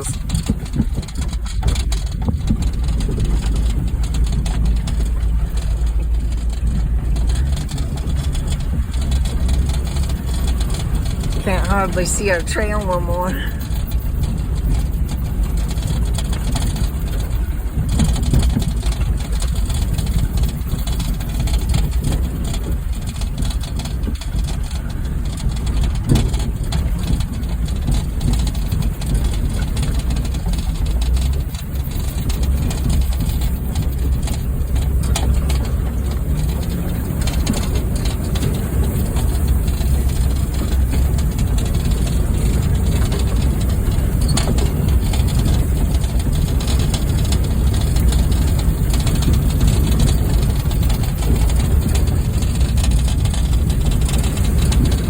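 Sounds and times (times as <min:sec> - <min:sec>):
car knocks on rough trail: 0:00.0 - 0:11.6, 0:13.6 - 0:55.0
car engine running: 0:00.0 - 0:55.0.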